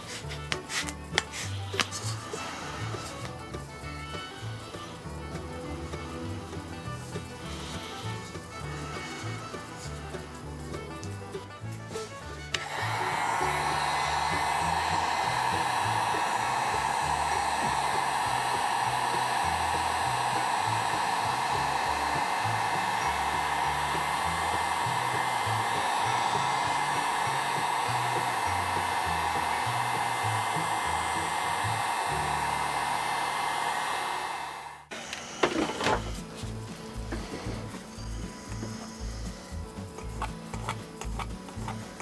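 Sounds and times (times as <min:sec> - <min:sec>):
hot-air blower running: 0:00.0 - 0:39.9.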